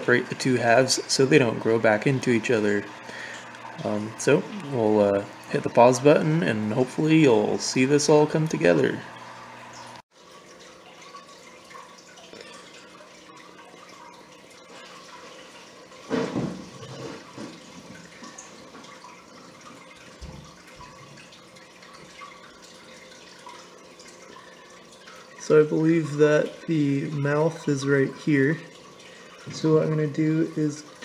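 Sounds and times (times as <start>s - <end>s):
low steady hum: 0.0s - 31.0s
running water: 0.0s - 31.0s.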